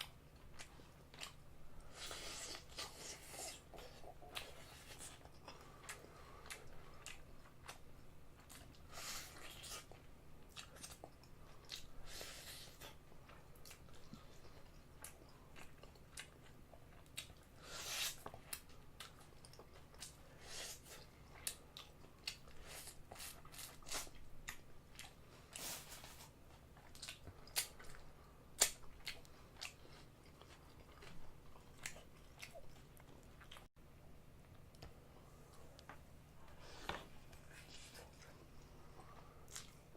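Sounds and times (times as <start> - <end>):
chewing crunchy fried chicken: 0.0 - 33.7, 37.2 - 39.9.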